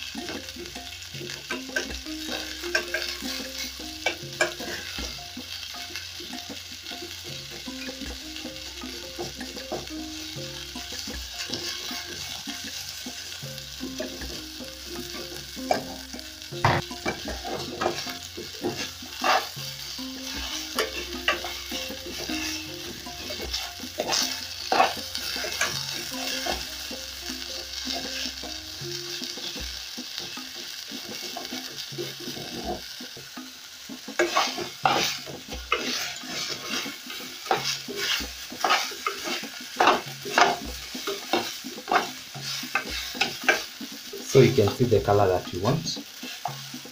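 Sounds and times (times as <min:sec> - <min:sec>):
meat sizzling in hot oil: 0:00.0 - 0:46.9.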